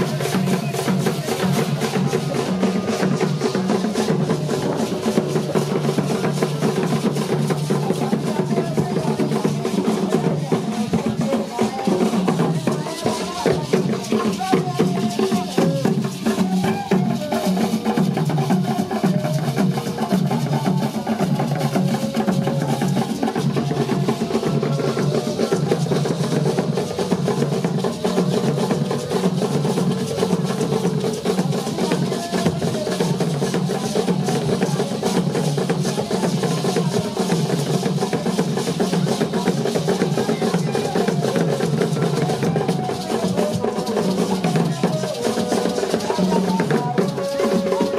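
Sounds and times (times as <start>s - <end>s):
drum and percussion music: 0.0s - 47.9s.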